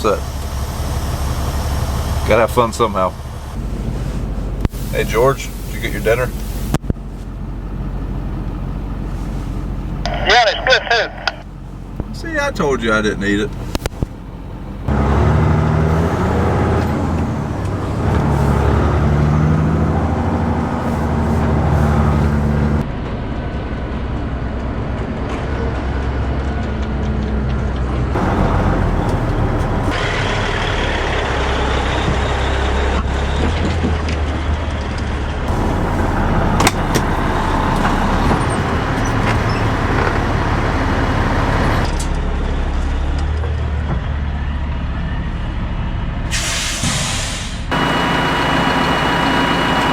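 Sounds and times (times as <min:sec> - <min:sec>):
diesel machinery running: 0:00.0 - 0:49.9.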